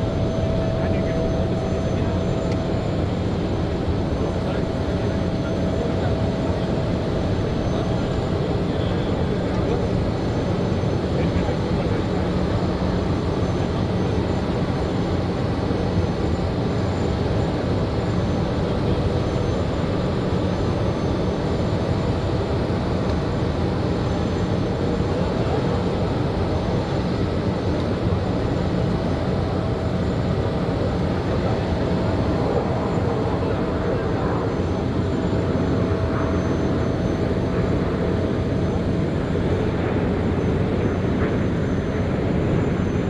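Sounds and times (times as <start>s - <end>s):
jet airliner flying past: 0.0s - 43.0s.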